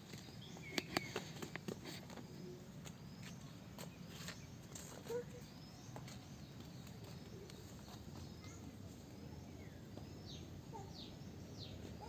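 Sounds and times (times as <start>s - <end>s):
low steady background noise: 0.0s - 12.0s
faint bird chirps: 0.2s - 12.0s.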